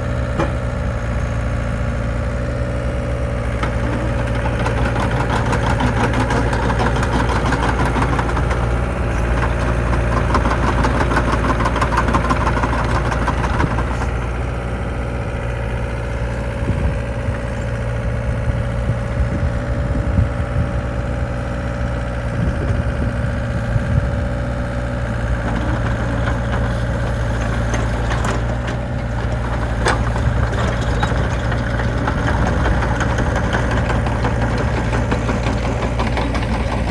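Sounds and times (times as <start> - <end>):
excavator diesel engine idling: 0.0 - 36.9.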